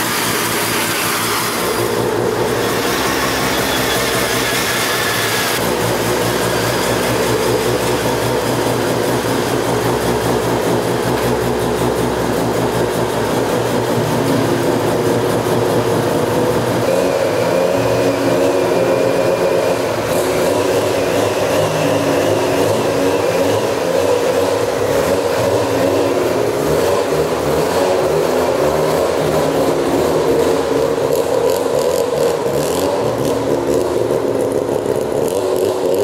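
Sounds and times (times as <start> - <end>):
rotary engine running: 0.0 - 36.0.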